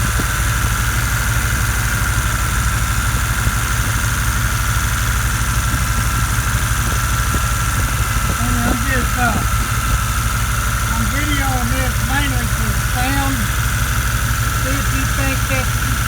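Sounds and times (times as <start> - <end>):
compressor high whine: 0.0 - 16.0
pickup engine running: 0.0 - 16.0.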